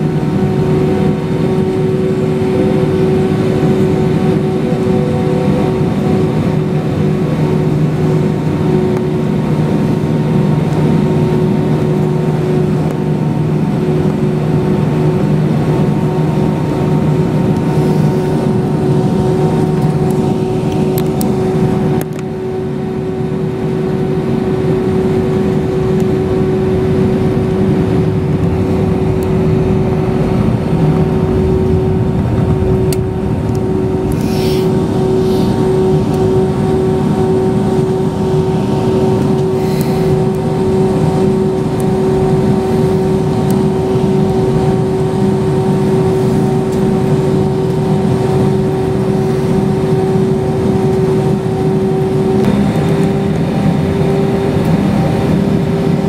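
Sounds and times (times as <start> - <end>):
jet engines droning with whine: 0.0 - 56.0.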